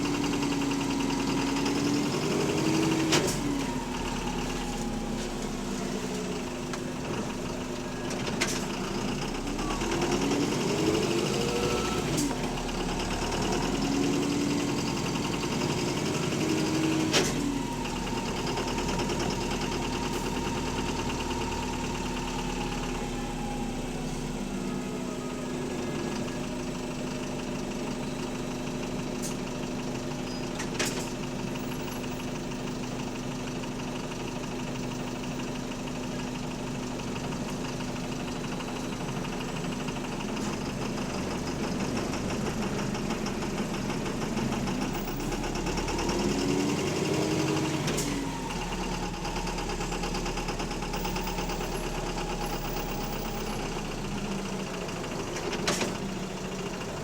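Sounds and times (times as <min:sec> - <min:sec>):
diesel engine with rod knock: 0:00.0 - 0:24.9, 0:25.6 - 0:57.0.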